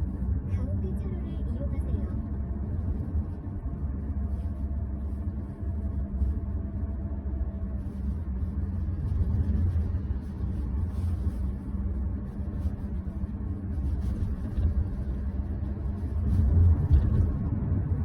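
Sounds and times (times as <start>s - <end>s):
road and tyre rumble inside car: 0.0s - 18.0s.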